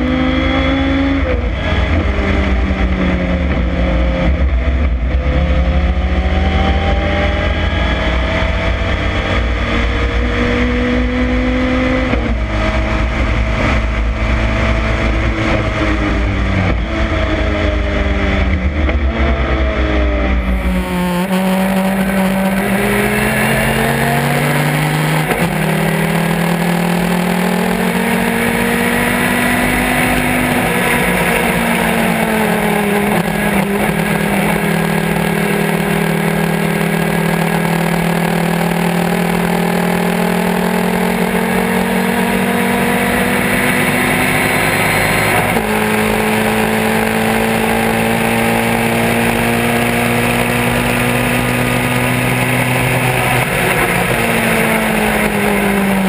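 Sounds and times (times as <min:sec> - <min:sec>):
race car engine accelerating: 0:00.0 - 0:56.0
wind and road noise: 0:00.0 - 0:56.0.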